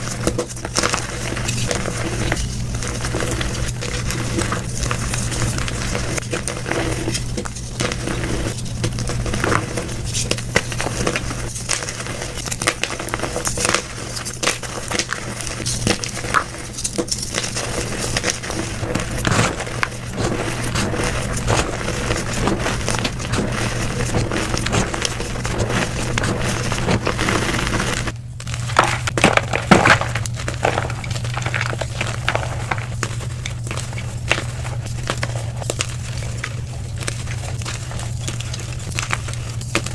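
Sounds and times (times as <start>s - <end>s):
chalk crunching and crackling: 0.0s - 39.9s
steady low hum: 0.0s - 39.9s.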